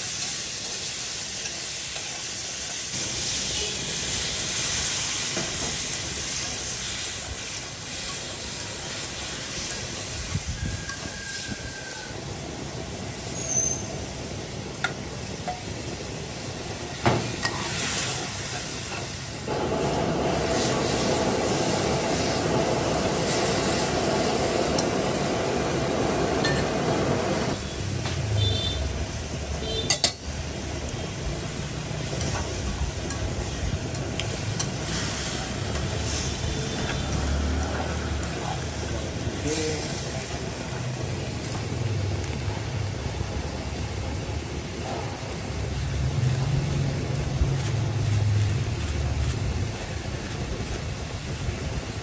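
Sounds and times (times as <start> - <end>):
fish sizzling in a pan: 0.0 - 26.8, 27.4 - 52.0.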